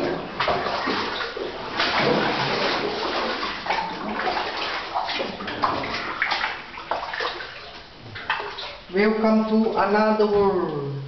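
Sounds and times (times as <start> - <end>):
paddles splashing in water: 0.0 - 8.9.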